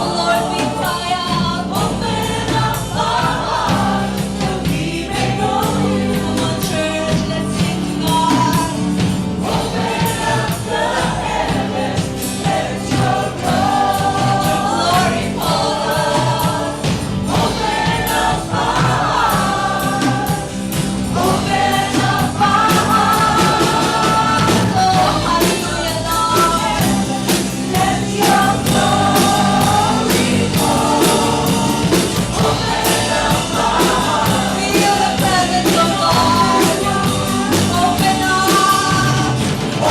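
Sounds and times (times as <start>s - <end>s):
congregation singing with band: 0.0s - 39.9s
steady drum beat: 0.0s - 39.9s.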